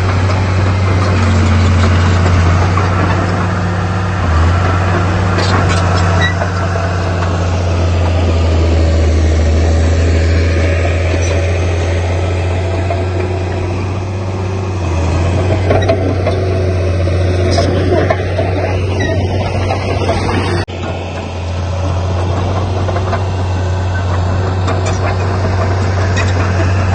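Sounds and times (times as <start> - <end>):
diesel engine droning: 0.0 - 26.9.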